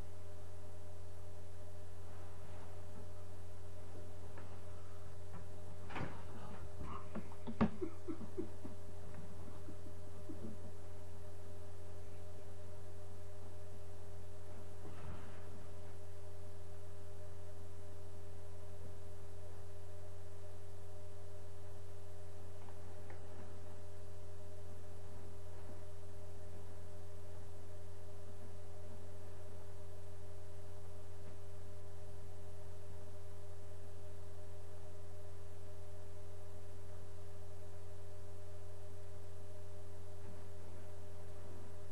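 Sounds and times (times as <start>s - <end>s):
faint soft sounds: 0.0s - 41.9s
steady electrical hum: 0.0s - 41.9s.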